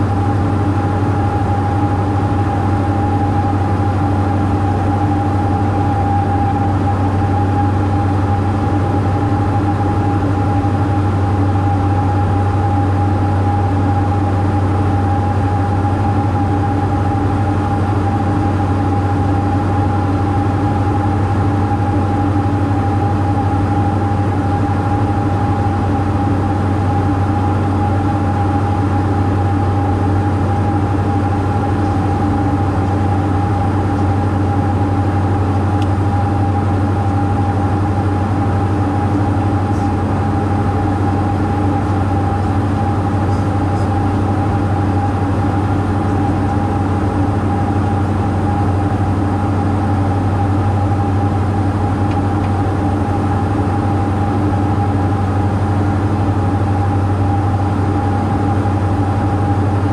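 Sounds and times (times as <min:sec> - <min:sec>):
aircraft engines droning: 0:00.0 - 0:59.9
steady engine whine: 0:00.0 - 0:59.9.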